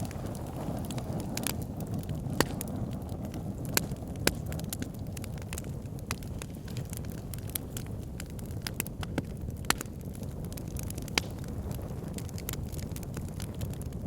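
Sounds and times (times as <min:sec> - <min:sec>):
fire crackling and snapping: 0:00.0 - 0:14.0
fire pops: 0:00.0 - 0:14.0
low fire rumble: 0:00.0 - 0:14.0.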